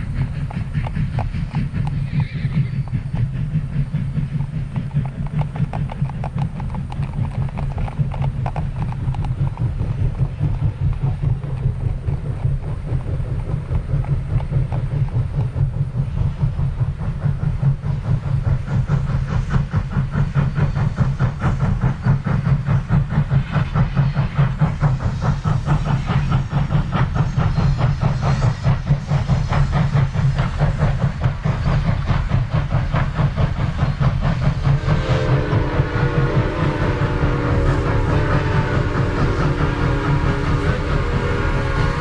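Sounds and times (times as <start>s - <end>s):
steam locomotive chuffing: 0.0s - 42.0s
train rumble and hiss: 0.0s - 42.0s.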